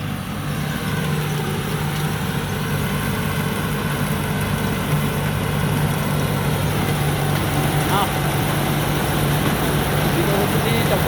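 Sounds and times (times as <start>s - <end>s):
combine harvester diesel engine: 0.0s - 11.0s.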